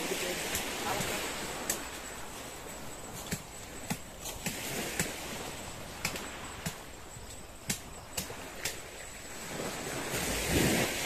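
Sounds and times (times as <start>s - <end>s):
surf noise: 0.0s - 11.0s.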